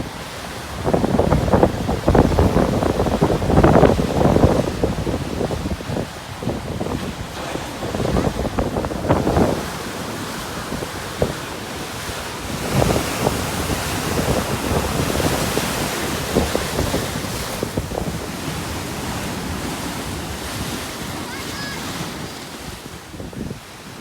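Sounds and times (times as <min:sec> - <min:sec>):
storm waves breaking on shore: 0:00.0 - 0:24.0
wind buffeting microphone: 0:00.0 - 0:24.0.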